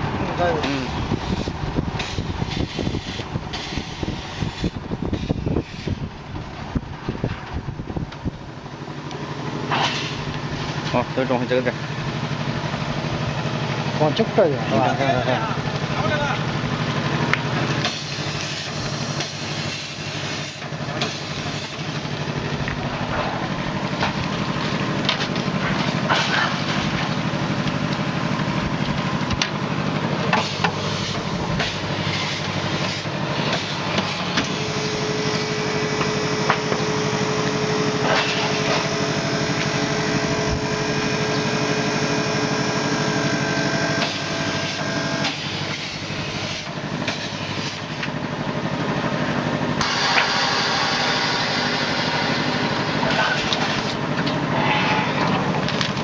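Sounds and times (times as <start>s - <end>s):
machinery humming: 0.0s - 56.0s
multi-tone whine: 0.0s - 56.0s.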